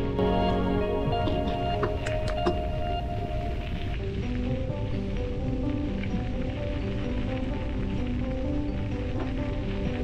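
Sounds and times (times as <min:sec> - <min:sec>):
music with held notes: 0:00.0 - 0:10.0
steady rushing noise: 0:00.0 - 0:10.0.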